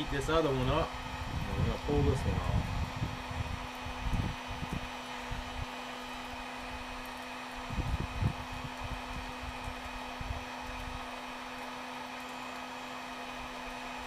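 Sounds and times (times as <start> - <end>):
heat gun blowing: 0.0 - 14.0.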